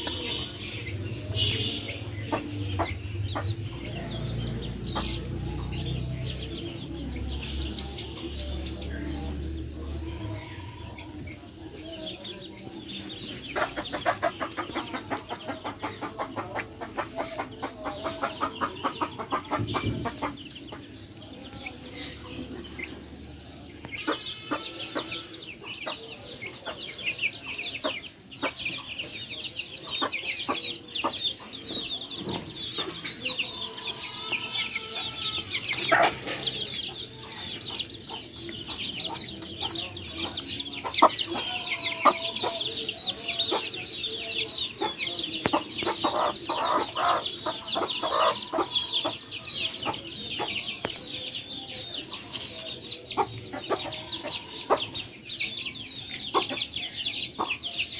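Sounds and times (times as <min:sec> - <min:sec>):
chicks peeping: 0:00.0 - 0:57.9
hens clucking: 0:00.0 - 0:57.9.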